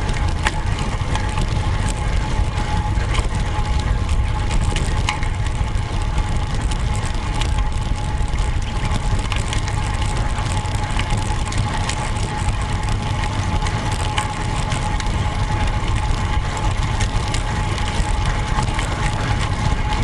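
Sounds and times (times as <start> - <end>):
small clicks and rattles: 0.0 - 20.0
tyre rumble on road: 0.0 - 20.0
wind buffeting microphone: 0.0 - 20.0.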